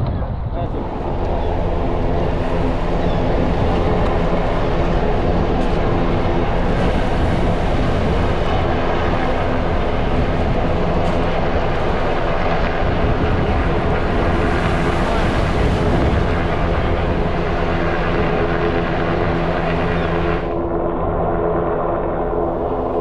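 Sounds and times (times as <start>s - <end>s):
steady engine drone: 0.0s - 23.0s.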